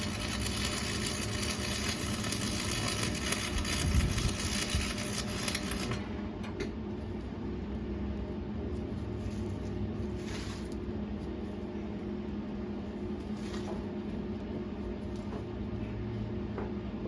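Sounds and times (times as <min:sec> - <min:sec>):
arc welder crackling hum: 0:00.0 - 0:17.0.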